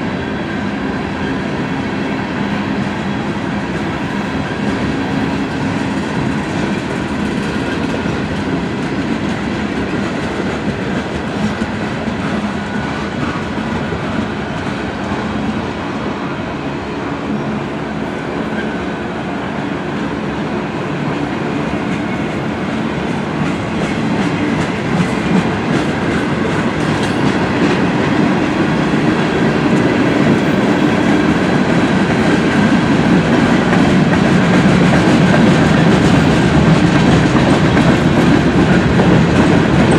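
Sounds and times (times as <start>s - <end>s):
railroad wheels clattering over joints: 1.3s - 15.8s, 19.8s - 39.9s.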